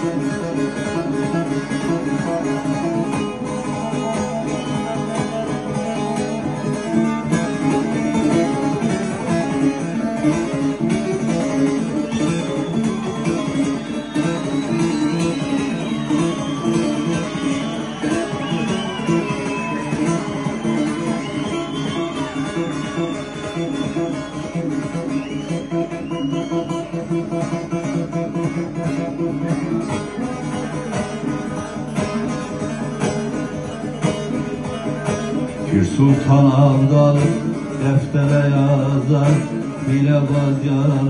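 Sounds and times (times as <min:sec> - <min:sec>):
plucked long-necked lute melody: 0:00.0 - 0:41.0.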